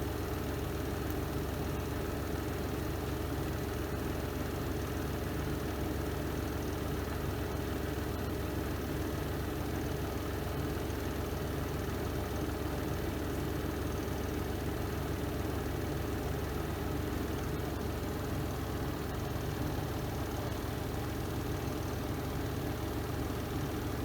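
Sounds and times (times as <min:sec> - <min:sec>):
washing machine spin cycle: 0:00.0 - 0:24.0.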